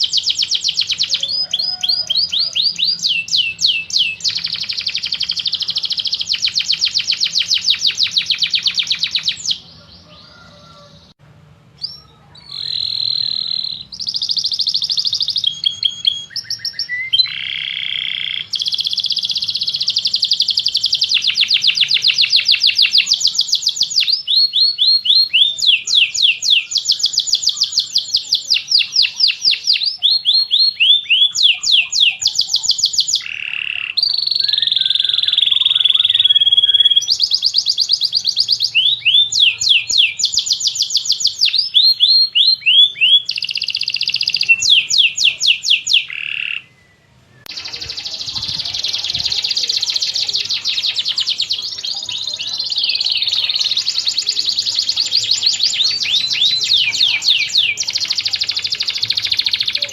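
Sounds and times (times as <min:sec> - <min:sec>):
canary singing trills: 0:00.0 - 0:11.2, 0:11.8 - 0:59.9.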